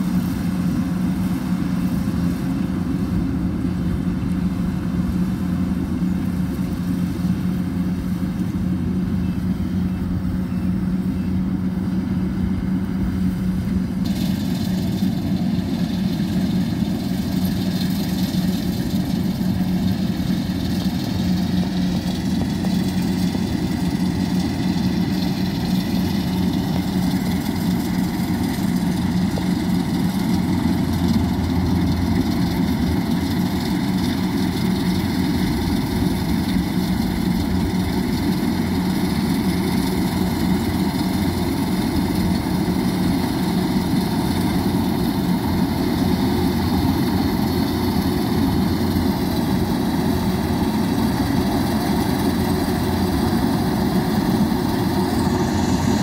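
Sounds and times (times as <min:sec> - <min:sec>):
combine harvester engine droning: 0:00.0 - 0:56.0.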